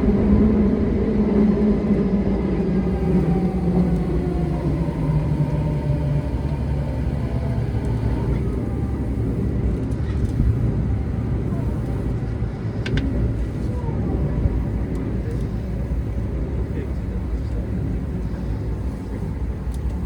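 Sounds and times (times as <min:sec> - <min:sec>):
train wheels rumbling on rails: 0:00.0 - 0:20.0
whining motor tones: 0:02.5 - 0:20.0.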